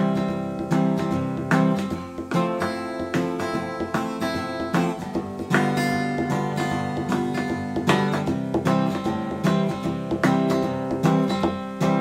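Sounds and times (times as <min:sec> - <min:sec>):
acoustic guitar playing chords: 0:00.0 - 0:12.0.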